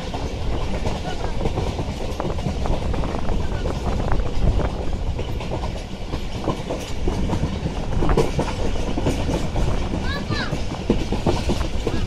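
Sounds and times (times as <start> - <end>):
train rumbling inside coach: 0.0 - 12.0
wheels and carriage rattling: 0.0 - 12.0.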